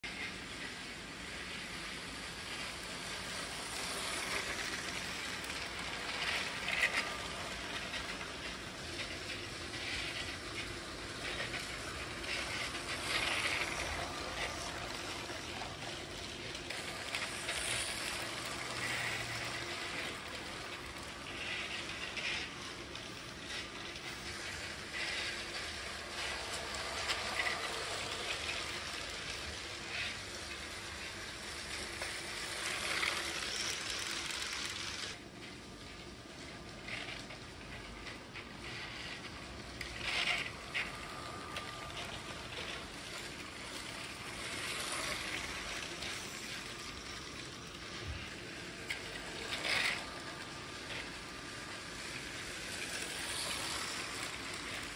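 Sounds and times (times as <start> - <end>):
toy train wheels clicking on track: 0.0 - 54.9.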